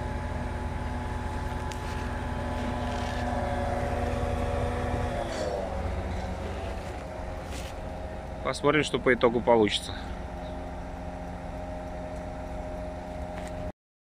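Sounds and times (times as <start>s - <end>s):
diesel engine running: 0.0s - 13.7s.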